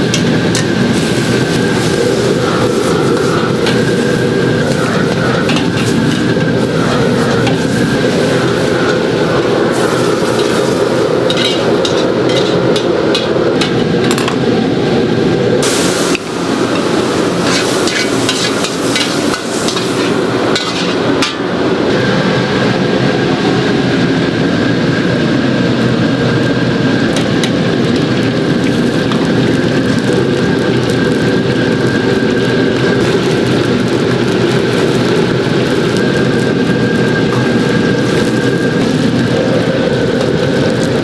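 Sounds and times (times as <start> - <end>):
low rumbling noise: 0.0 - 41.0.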